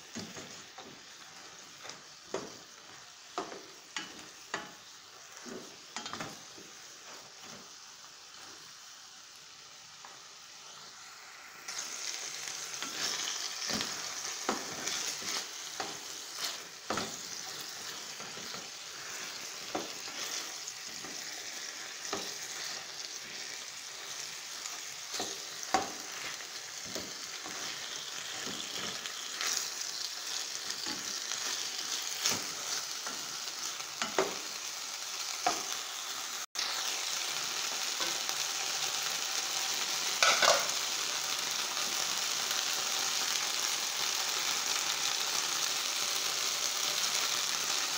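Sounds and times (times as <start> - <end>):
chicken sizzling in oil: 0.0 - 47.9.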